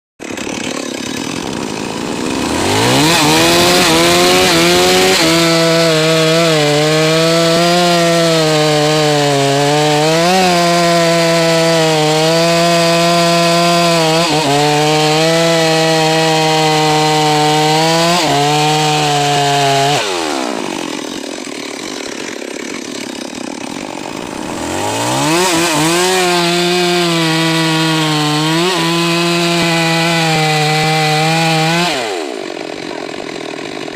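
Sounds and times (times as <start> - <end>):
chainsaw revving: 0.2 - 33.9.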